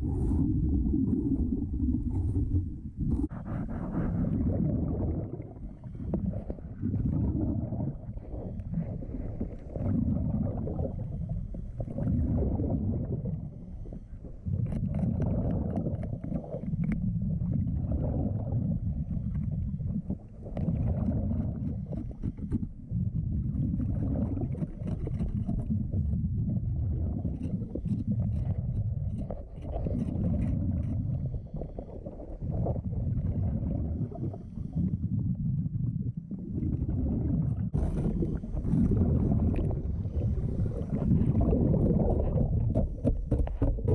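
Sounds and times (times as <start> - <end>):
underwater exhaled air bubbles: 0.0 - 43.9.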